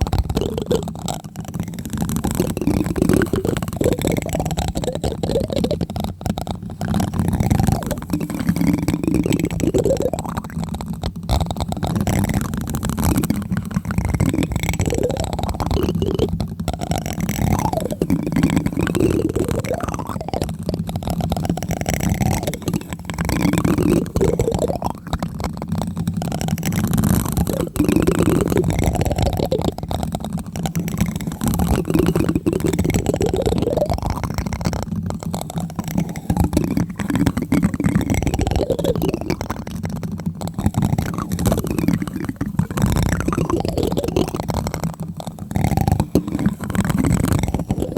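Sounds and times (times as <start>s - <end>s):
plastic spoon tapping on microphone: 0.0s - 47.9s.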